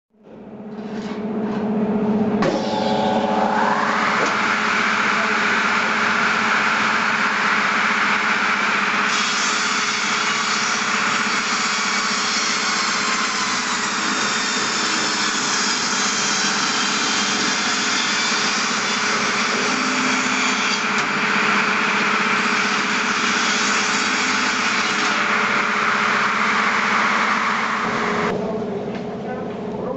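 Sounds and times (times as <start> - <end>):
log saw machine running: 2.4 - 28.8.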